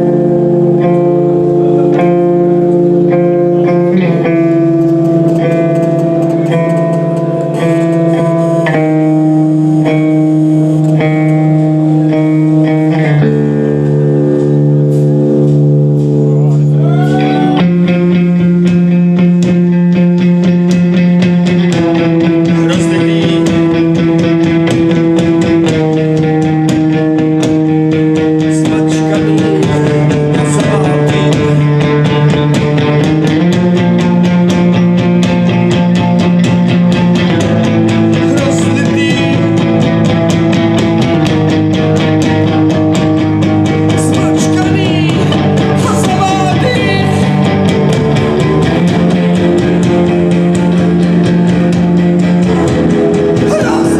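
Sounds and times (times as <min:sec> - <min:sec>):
live rock music: 0:00.0 - 0:53.9.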